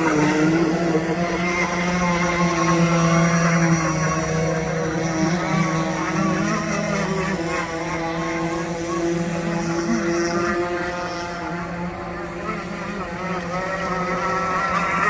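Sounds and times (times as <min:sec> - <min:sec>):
model boat motor running: 0:00.0 - 0:15.0.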